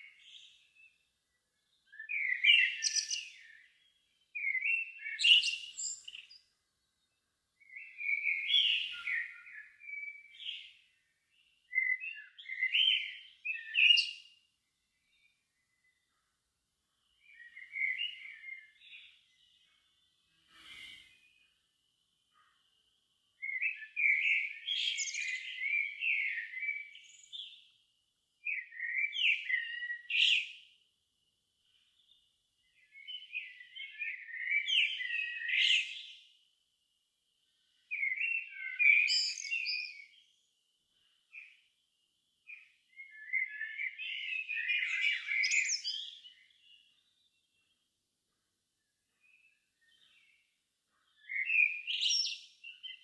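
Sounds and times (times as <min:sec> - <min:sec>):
songbird twittering: 0:01.6 - 0:14.4, 0:17.0 - 0:27.7, 0:28.4 - 0:30.6, 0:31.7 - 0:36.2, 0:37.7 - 0:41.8, 0:42.4 - 0:47.8, 0:49.2 - 0:53.0.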